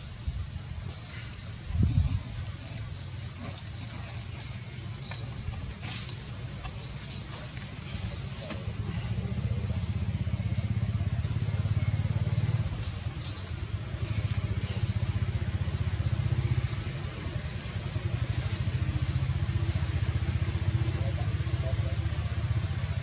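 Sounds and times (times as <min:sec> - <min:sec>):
engine running: 0:00.8 - 0:23.0.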